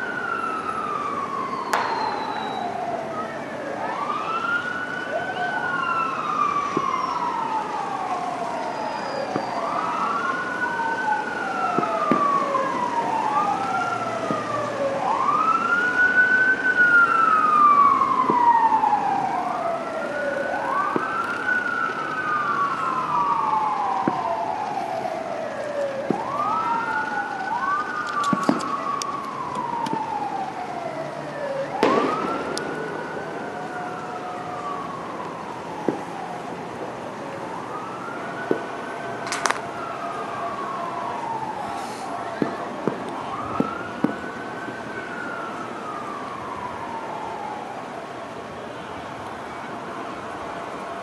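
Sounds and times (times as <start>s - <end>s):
fire truck sirens wailing: 0.0s - 51.0s.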